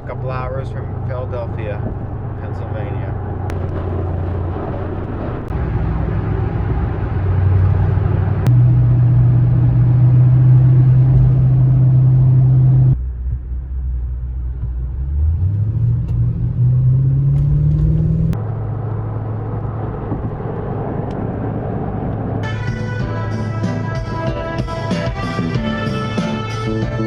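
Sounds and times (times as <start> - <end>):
road noise: 0.0 - 27.0
vehicle engine drone: 0.0 - 27.0.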